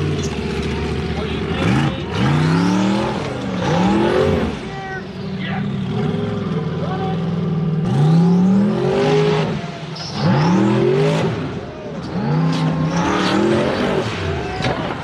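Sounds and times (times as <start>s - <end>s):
engine revving hard: 0.0s - 4.8s, 5.6s - 15.0s.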